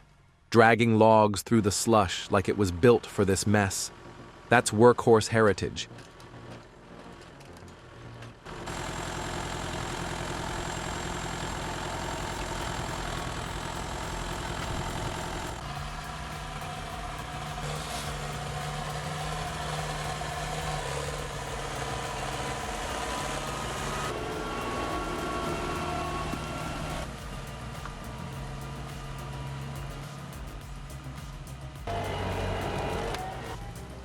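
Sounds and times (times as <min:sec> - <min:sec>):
heavy machine engine running: 0:02.7 - 0:04.8, 0:05.8 - 0:34.0.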